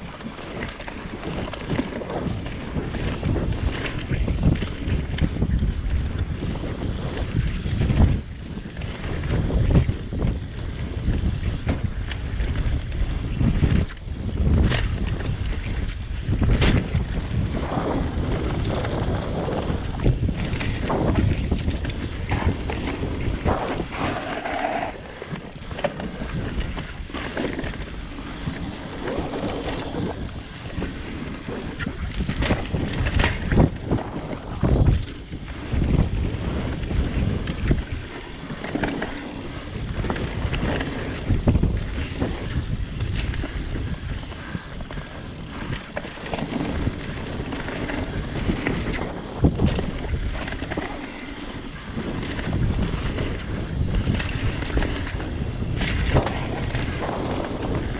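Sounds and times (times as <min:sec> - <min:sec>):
bike rattling over bumps: 0:00.0 - 0:57.9
wind buffeting microphone: 0:00.0 - 0:57.9.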